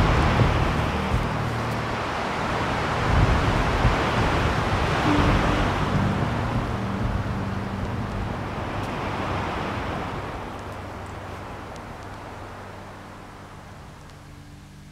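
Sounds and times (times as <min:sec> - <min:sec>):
strong wind through pine trees: 0:00.0 - 0:14.9.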